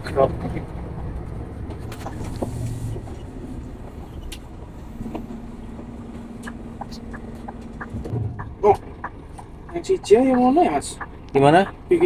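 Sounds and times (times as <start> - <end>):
truck engine rumbling: 0.0 - 12.0
steady hum: 1.9 - 12.0.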